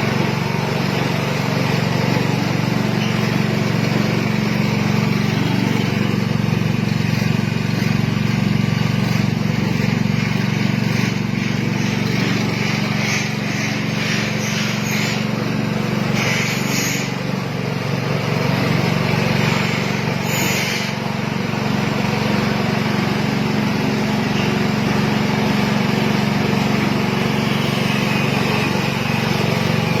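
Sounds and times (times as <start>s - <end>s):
machine motor humming: 0.0s - 30.0s.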